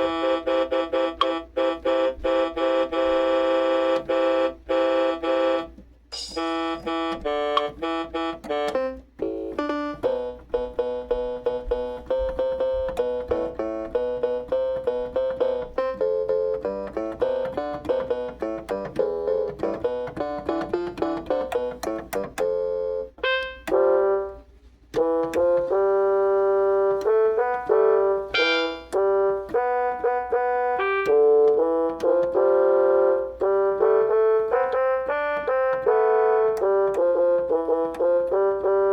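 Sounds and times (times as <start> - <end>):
piano playing fast runs and chords: 0.0 - 38.9.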